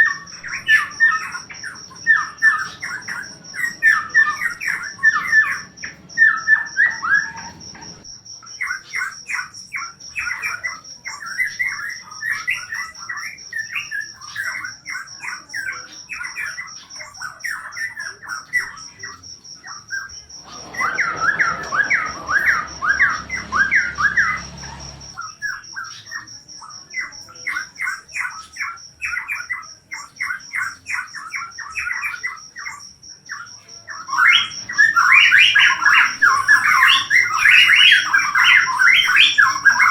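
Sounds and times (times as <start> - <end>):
cricket trilling: 0.0 - 39.9.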